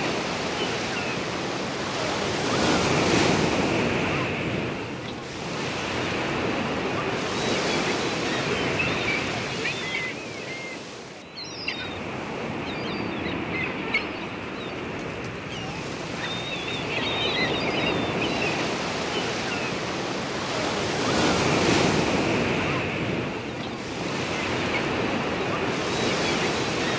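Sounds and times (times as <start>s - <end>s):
small waves breaking on beach: 0.0s - 26.9s.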